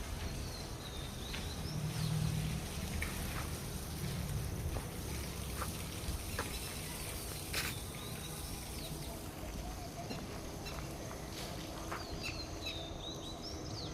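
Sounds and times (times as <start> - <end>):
small birds chirping: 0.0 - 4.2, 5.2 - 13.9.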